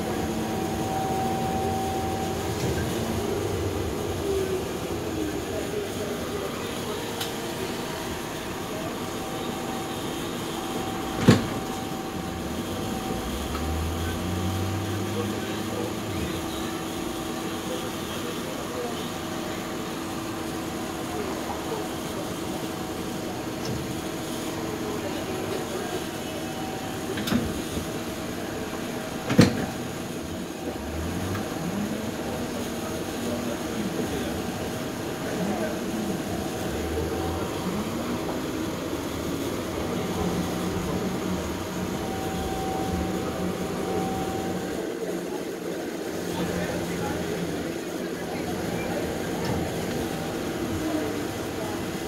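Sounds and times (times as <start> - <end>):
streetcar running noise: 0.0 - 52.0.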